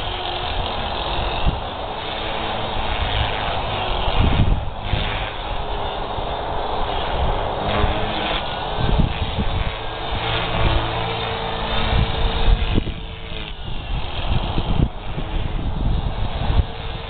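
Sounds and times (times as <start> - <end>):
model helicopter rotor whine: 0.0 - 17.0
rough gusty rotor noise: 0.0 - 17.0.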